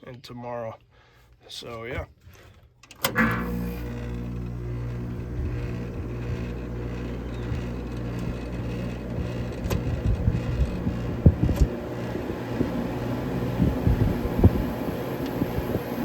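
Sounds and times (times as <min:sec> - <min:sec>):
air conditioner humming: 0:03.1 - 0:16.0.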